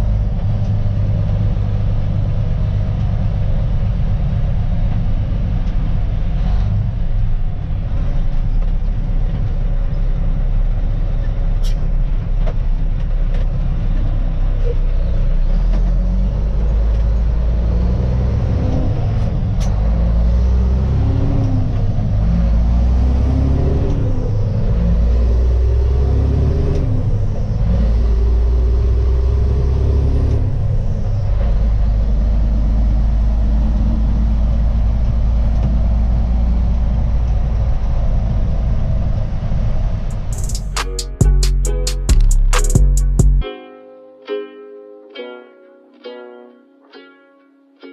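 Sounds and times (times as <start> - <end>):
truck diesel engine shifting gears: 0.0 - 43.4.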